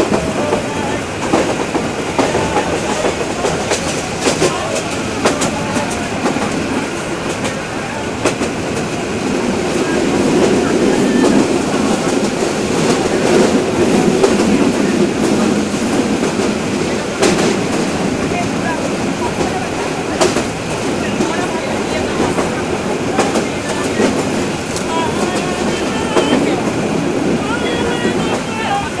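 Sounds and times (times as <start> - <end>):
train wheels rumbling on rail: 0.0 - 29.0
wheels clicking over rail joints: 0.0 - 29.0.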